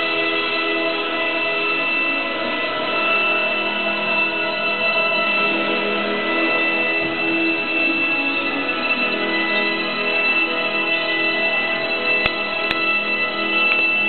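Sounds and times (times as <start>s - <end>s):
music with long held chords: 0.0s - 14.0s.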